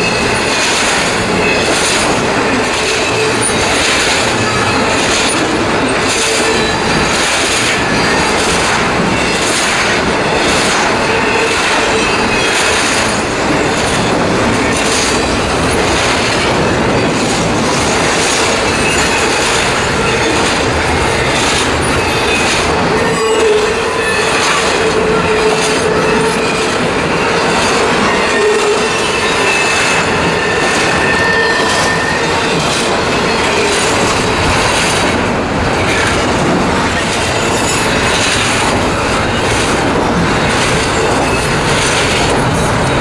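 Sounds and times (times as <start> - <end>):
clacks over rail joints: 0.0 - 43.0
steel wheels rumbling on rail: 0.0 - 43.0.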